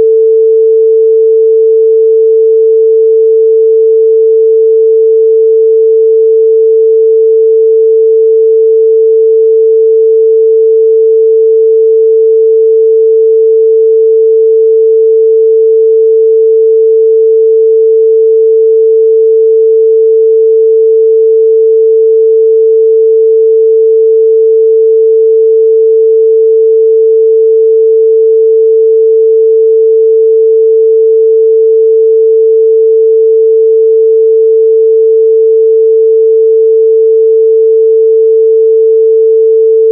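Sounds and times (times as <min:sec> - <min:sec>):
pure sine test tone: 0:00.0 - 0:39.9.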